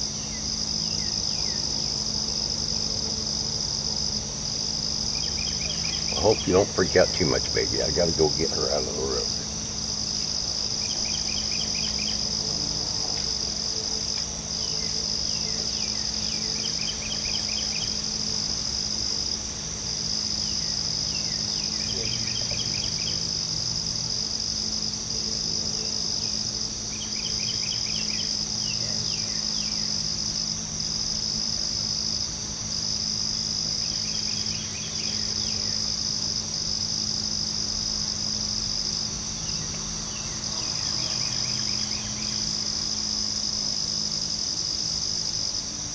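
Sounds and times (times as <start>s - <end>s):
crickets trilling: 0.0s - 45.9s
faint low hum: 0.0s - 45.9s.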